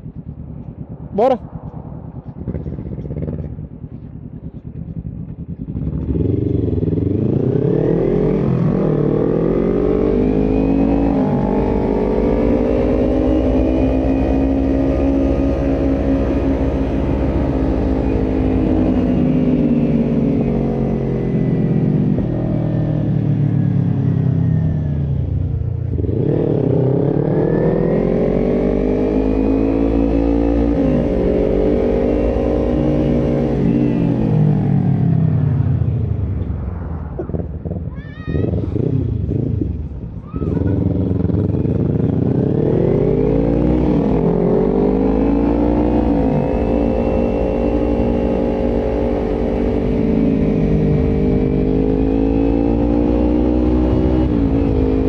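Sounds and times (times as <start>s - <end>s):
motorcycle engine revving: 2.2s - 36.5s, 38.5s - 55.0s.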